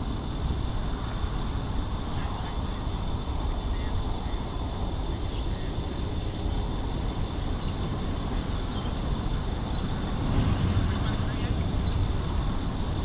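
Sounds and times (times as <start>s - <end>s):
low outdoor rumble: 0.0s - 13.0s
small birds chirping: 1.1s - 10.3s, 11.0s - 13.0s.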